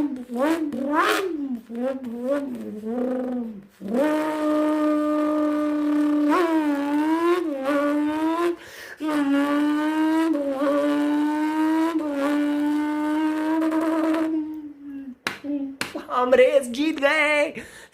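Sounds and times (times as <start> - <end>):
person imitating race car engine: 0.0 - 15.8.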